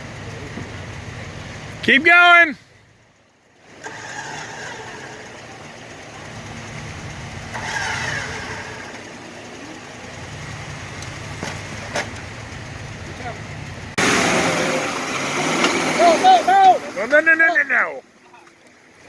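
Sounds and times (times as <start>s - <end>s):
off-road vehicle engine under load: 0.0s - 19.0s.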